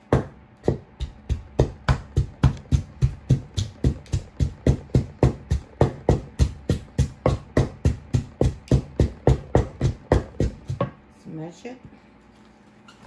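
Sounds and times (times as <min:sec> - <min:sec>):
wooden pestle pounding in mortar: 0:00.0 - 0:11.0.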